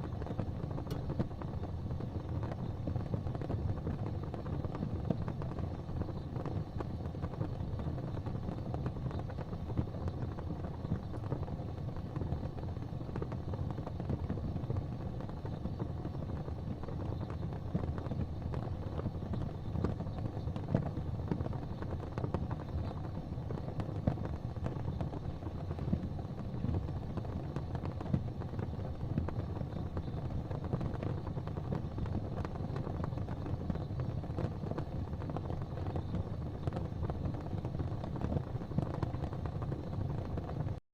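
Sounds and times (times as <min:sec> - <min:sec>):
fire crackling and popping: 0:00.0 - 0:40.8.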